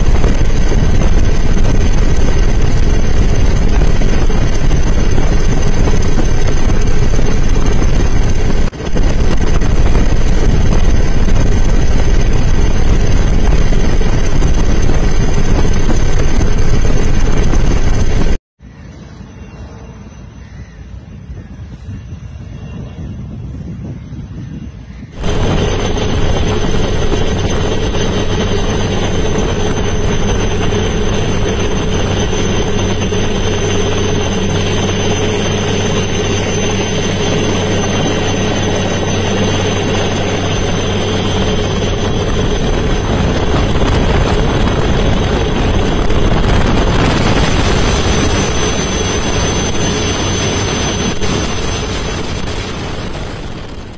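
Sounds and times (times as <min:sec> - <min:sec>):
helicopter engine and rotor drone: 0:00.0 - 0:53.9.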